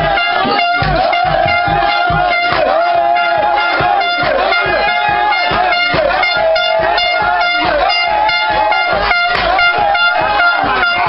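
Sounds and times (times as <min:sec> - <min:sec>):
dance music over loudspeaker: 0:00.0 - 0:11.0
plastic horn blowing: 0:00.0 - 0:11.0.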